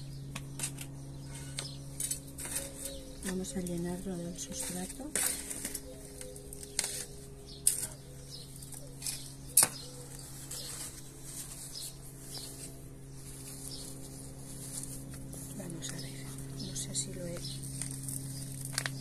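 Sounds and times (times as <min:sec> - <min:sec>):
low hum: 0:00.0 - 0:19.0
soil rustling and scraping: 0:00.6 - 0:19.0.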